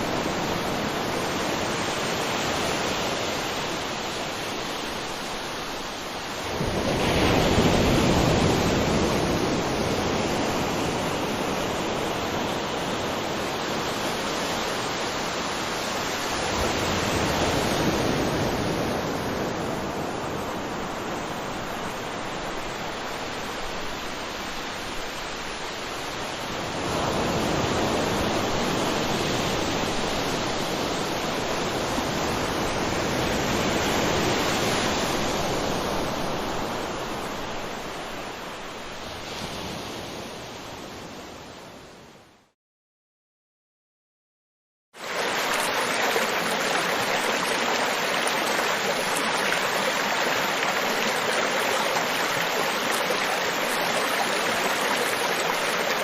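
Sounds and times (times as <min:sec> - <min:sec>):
ocean surf washing onto beach: 0:00.0 - 0:41.0, 0:45.0 - 0:56.0.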